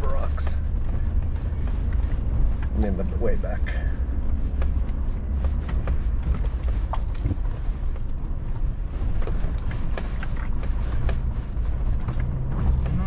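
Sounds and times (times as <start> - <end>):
gravel knocking under tyres: 0.0 - 13.0
vehicle engine rumble: 0.0 - 13.0.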